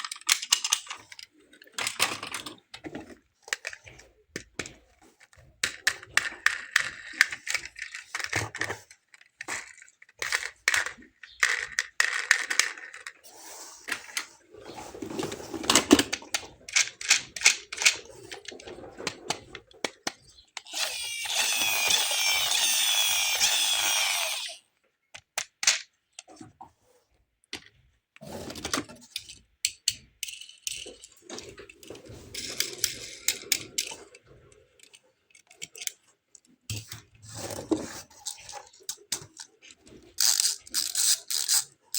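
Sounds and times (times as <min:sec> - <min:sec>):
plastic toy clicks and rattles: 0:00.0 - 0:13.3, 0:15.2 - 0:26.3, 0:28.6 - 0:34.2, 0:34.8 - 0:37.1, 0:38.2 - 0:41.9.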